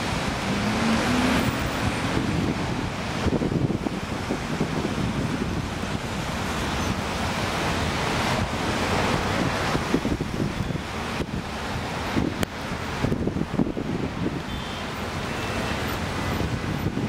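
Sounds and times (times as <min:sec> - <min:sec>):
wind buffeting microphone: 0:00.0 - 0:14.5, 0:16.0 - 0:17.0.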